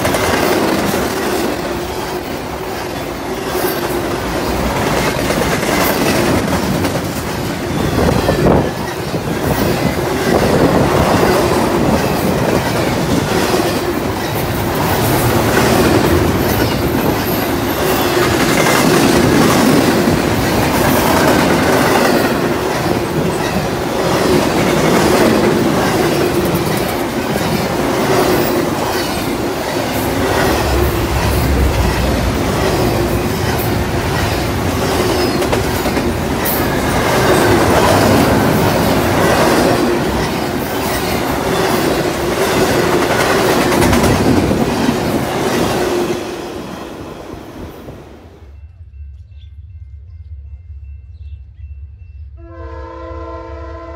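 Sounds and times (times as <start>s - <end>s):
wheels clickety-clack: 0.0s - 46.0s
train wheels rumbling on rail: 0.0s - 53.9s.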